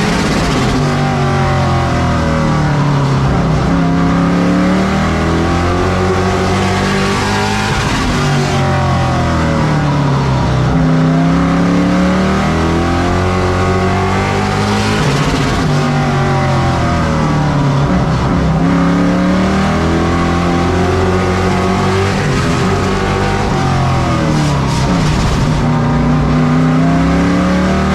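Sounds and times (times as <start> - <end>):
race truck engine revving: 0.0 - 27.9.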